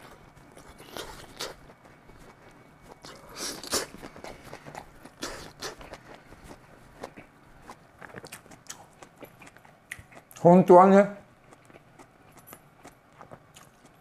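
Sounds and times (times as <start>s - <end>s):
person chewing: 0.0s - 10.4s, 11.3s - 14.0s.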